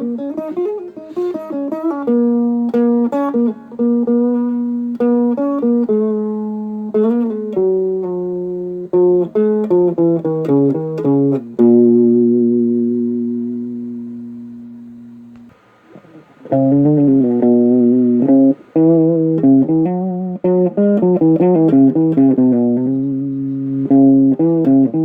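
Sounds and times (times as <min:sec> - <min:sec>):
plucked guitar melody: 0:00.0 - 0:25.0.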